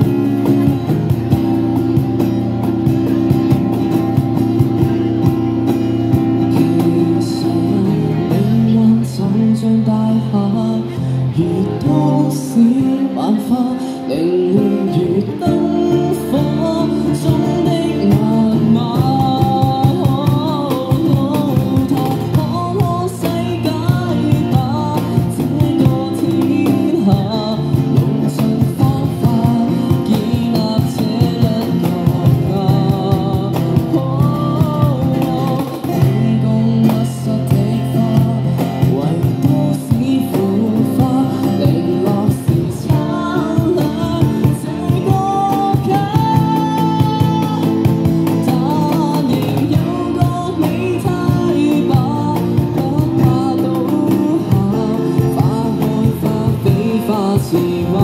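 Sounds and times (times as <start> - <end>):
man singing pop song: 0.0 - 58.0
strummed guitar: 0.0 - 58.0.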